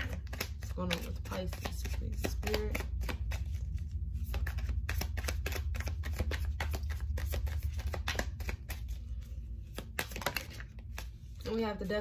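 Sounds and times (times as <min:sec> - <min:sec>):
cards being shuffled: 0:00.0 - 0:11.6
low steady hum: 0:00.0 - 0:12.0.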